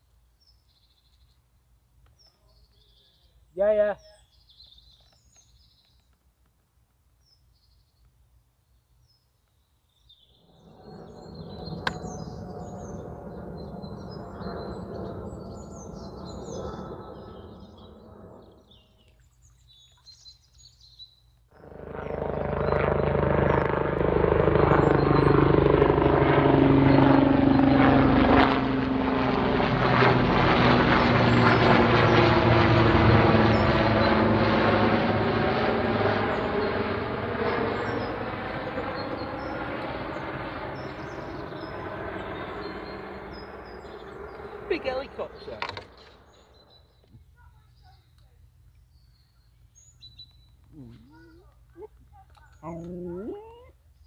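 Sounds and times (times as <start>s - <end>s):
small birds chirping: 0.0s - 6.3s, 7.1s - 23.6s, 24.4s - 25.5s, 31.2s - 54.0s.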